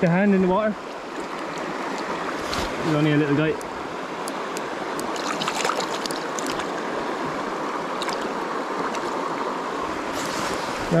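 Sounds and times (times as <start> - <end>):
shallow river water running: 0.0 - 11.0
light water splashes: 0.8 - 11.0.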